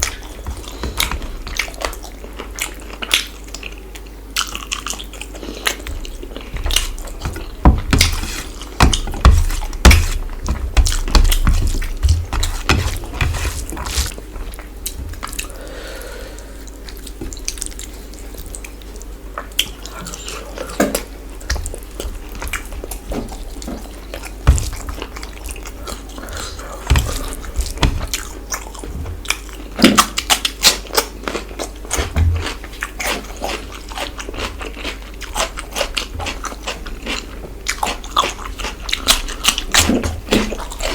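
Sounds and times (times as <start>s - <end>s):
wet chewing: 0.0s - 40.9s.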